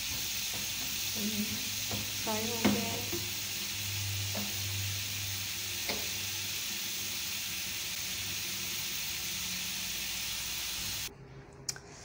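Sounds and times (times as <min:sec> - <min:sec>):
chips sizzling in hot oil: 0:00.0 - 0:11.1.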